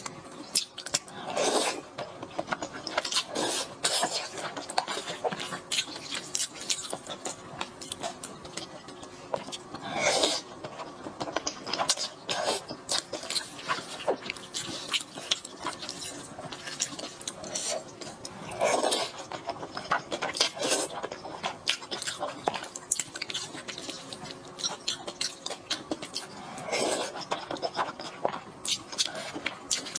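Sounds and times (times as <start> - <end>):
chewing food clicks and crackles: 0.0 - 1.2, 1.9 - 26.4, 27.1 - 30.0
loud noisy eating sounds: 0.5 - 30.0.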